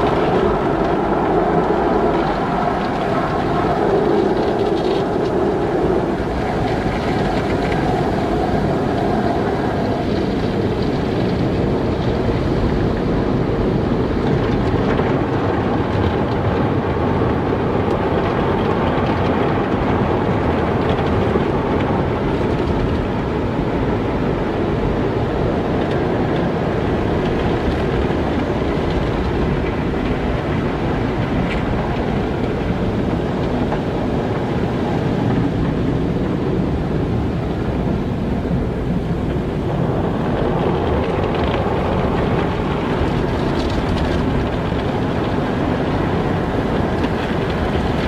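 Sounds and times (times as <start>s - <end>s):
car wash water and machinery: 0.0s - 48.0s.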